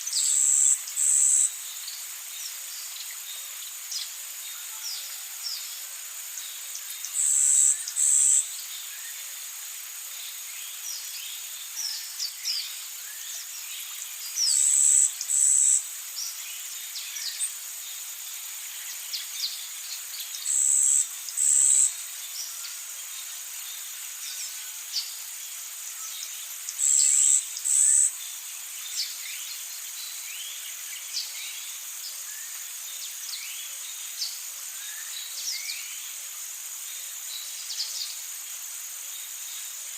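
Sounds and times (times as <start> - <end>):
high-pitched insect drone: 0.1 - 39.9.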